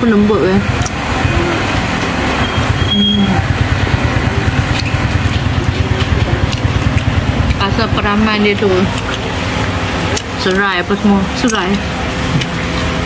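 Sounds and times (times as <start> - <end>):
fan air buffeting microphone: 0.0 - 13.0.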